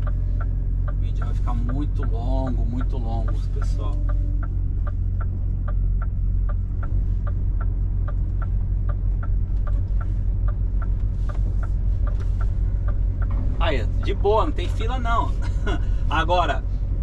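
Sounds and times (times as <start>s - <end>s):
truck diesel engine humming: 0.0s - 17.0s
turn signal ticking: 0.0s - 17.0s.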